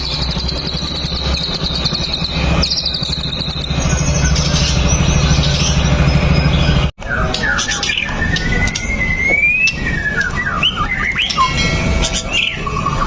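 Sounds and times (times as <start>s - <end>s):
bird singing trilled phrases: 0.0s - 13.0s.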